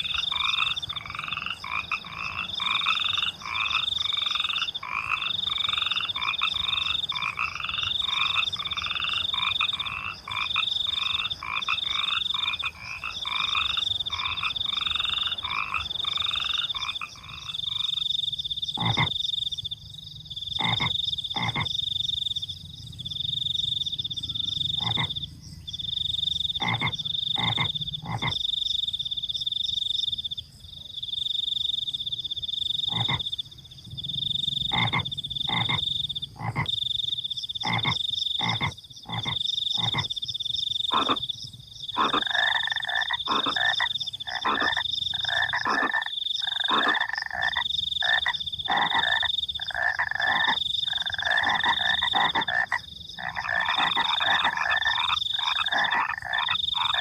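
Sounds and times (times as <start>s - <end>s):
crickets trilling: 0.0s - 57.0s
frogs croaking: 0.0s - 57.0s.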